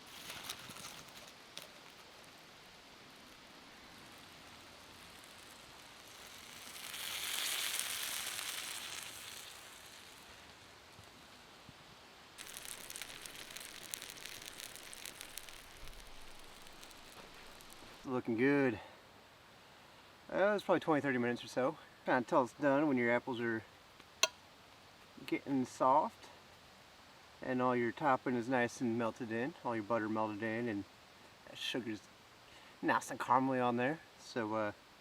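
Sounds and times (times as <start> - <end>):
campfire coals crackling and hissing: 0.0 - 35.0.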